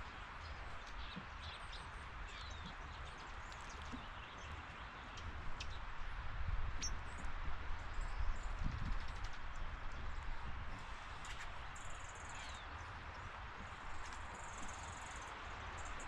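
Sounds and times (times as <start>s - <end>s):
small birds chirping: 0.0s - 6.0s, 6.7s - 16.0s.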